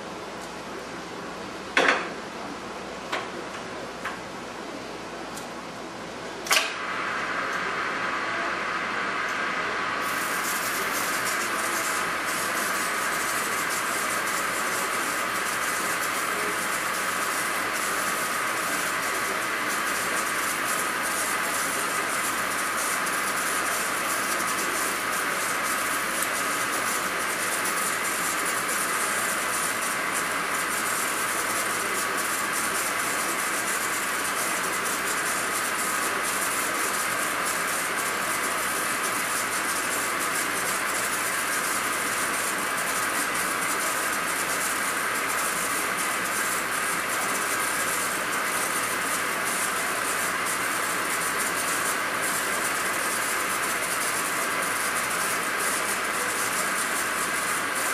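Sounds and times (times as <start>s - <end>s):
lathe running with hiss: 5.9s - 57.9s.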